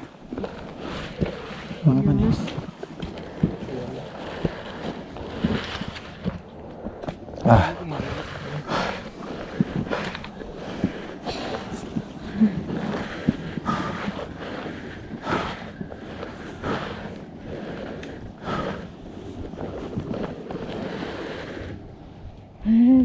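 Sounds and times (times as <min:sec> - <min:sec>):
heavy rhythmic breathing: 0:00.0 - 0:23.0
wind on microphone: 0:00.0 - 0:23.0.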